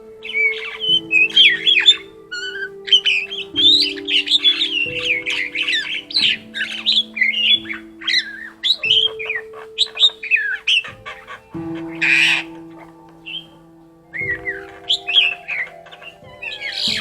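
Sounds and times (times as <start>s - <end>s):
starling singing: 0.0s - 17.0s.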